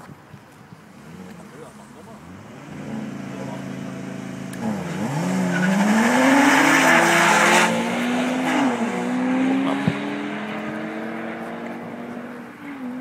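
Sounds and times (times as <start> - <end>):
sports car engines accelerating: 0.8 - 13.0.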